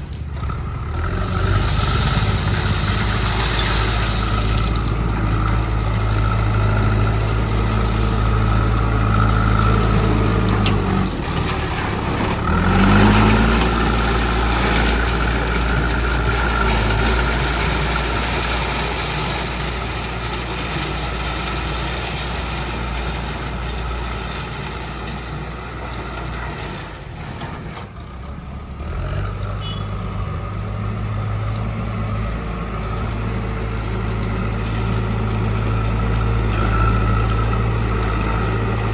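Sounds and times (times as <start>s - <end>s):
diesel engine working under load: 0.0s - 38.9s.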